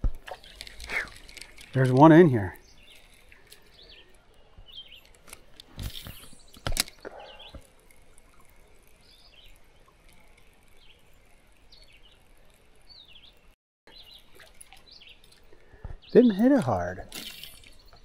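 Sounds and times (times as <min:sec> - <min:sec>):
small birds chirping: 0:00.2 - 0:18.0.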